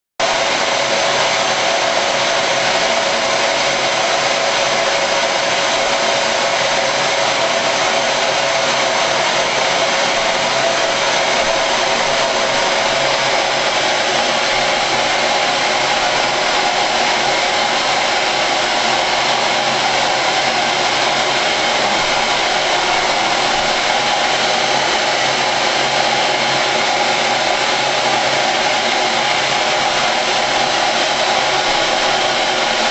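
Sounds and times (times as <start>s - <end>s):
vacuum cleaner running: 0.2s - 32.9s.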